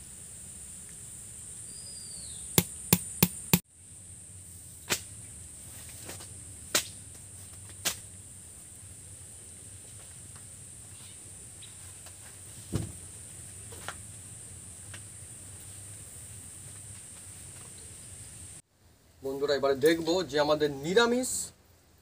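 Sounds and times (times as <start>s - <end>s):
high insect drone: 0.0s - 18.6s.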